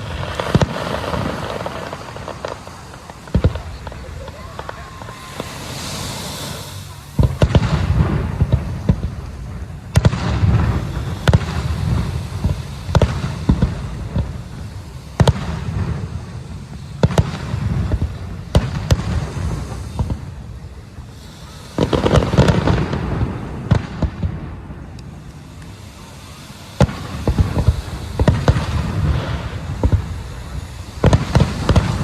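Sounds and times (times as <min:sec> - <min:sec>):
fireworks cracking and booming: 0:00.0 - 0:32.0.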